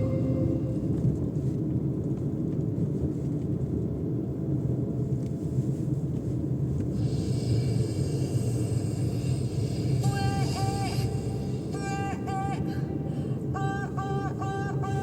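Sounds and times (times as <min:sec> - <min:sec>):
vehicle rumble in motion: 0:00.0 - 0:15.0.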